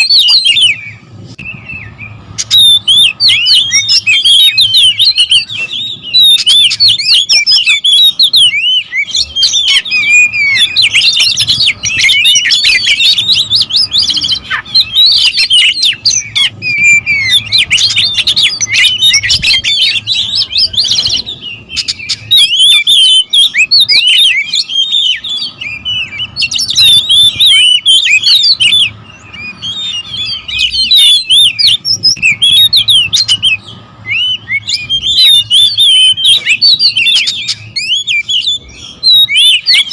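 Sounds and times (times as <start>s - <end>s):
birds chirping and whistling: 0.0s - 39.9s.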